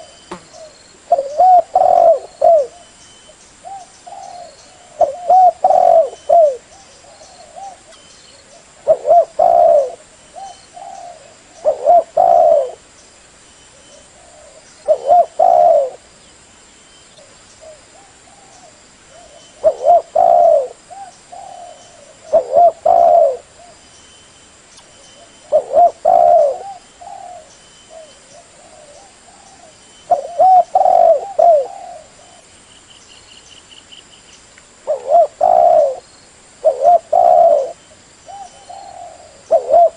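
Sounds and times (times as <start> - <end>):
dove cooing: 0.0 - 2.9, 3.6 - 12.8, 13.7 - 16.0, 17.2 - 23.8, 25.2 - 32.5, 34.8 - 36.0, 36.6 - 39.9.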